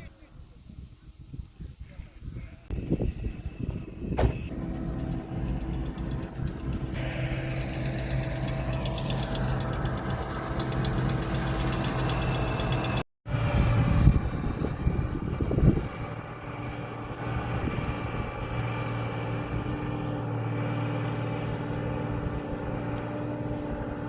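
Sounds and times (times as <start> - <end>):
combine harvester engine running: 2.7 - 24.0
high mechanical whirr: 2.7 - 24.0.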